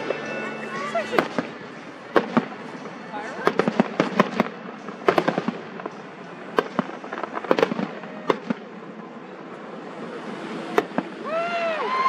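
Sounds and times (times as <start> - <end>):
fireworks bangs and crackling: 0.0 - 11.7.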